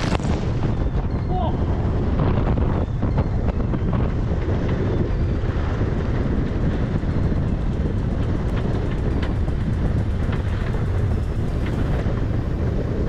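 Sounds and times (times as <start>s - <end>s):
water noise around boat: 0.0s - 13.0s
wind buffeting microphone: 0.0s - 13.0s.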